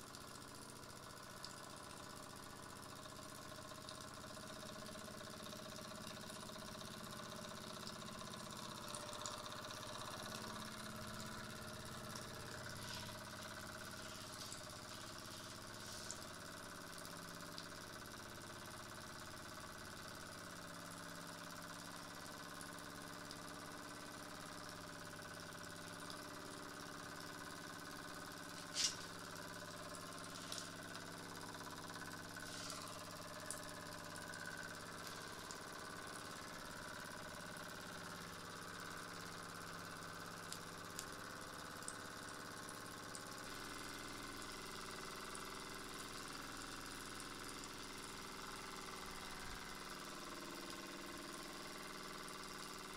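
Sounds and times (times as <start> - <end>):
model steam engine running: 0.0 - 52.9.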